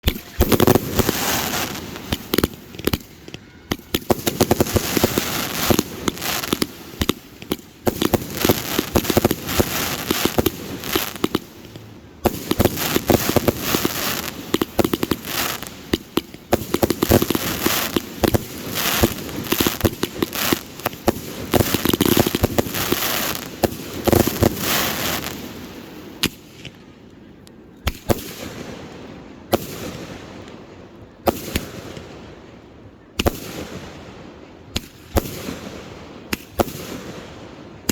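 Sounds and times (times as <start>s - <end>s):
fireworks bangs and crackling: 0.0s - 26.9s, 27.8s - 32.6s, 33.2s - 37.9s.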